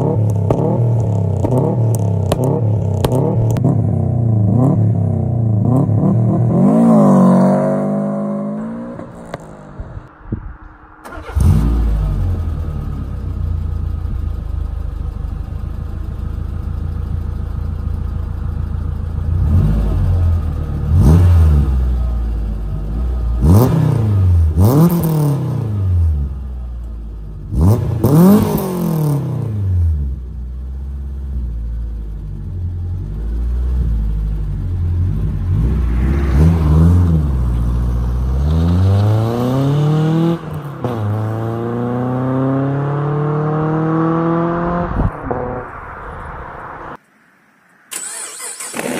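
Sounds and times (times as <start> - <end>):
car engine idling and revving: 0.0 - 47.1, 47.7 - 48.9.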